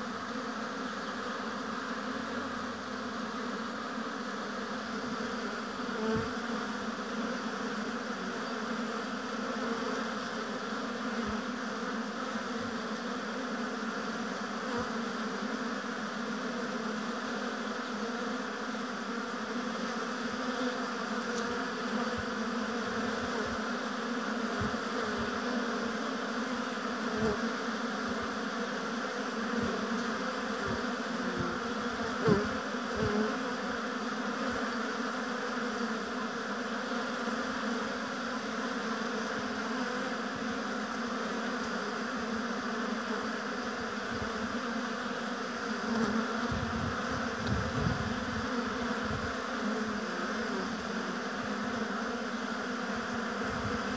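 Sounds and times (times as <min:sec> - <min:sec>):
bees buzzing: 0:00.0 - 0:53.9.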